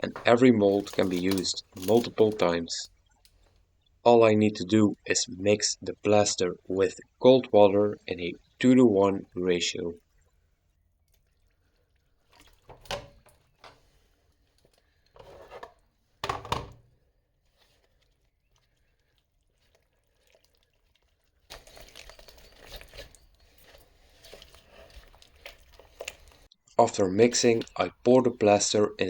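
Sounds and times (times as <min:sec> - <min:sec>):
stirring and scraping plaster mix: 0:00.0 - 0:04.0, 0:04.6 - 0:16.2, 0:16.8 - 0:29.0.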